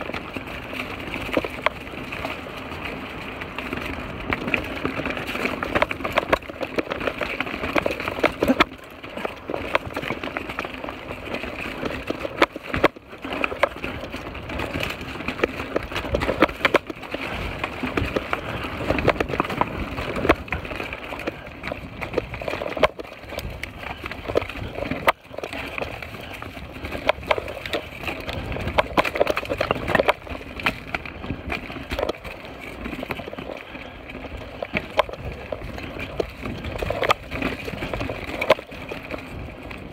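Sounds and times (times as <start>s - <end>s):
bike knocking over rocks: 0.0s - 39.9s
bike tyres on dirt: 0.0s - 39.9s.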